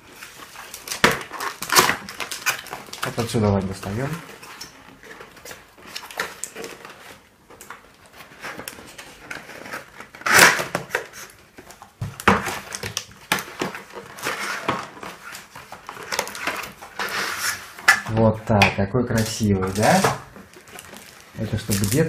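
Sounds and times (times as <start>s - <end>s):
cardboard and packaging rustling: 0.0s - 22.0s.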